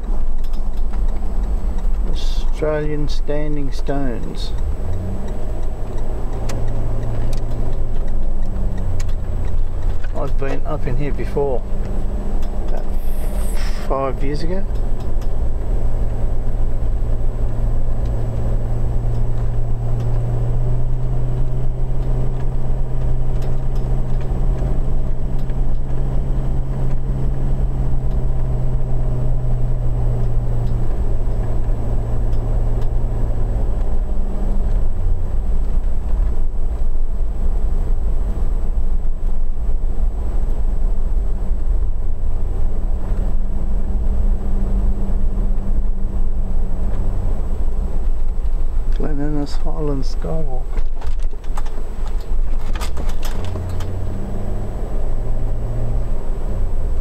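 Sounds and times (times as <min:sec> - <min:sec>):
car engine hum: 0:00.0 - 0:57.0
road rumble: 0:00.0 - 0:57.0.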